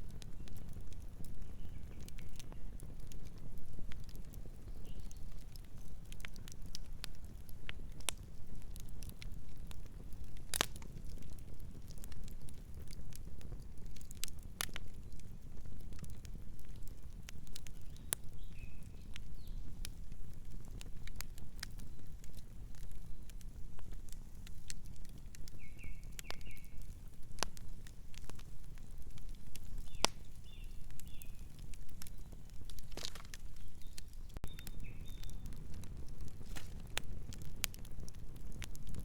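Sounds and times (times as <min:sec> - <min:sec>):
burning wood crackling and popping: 0:00.0 - 0:39.0
fire low rumble: 0:00.0 - 0:39.0.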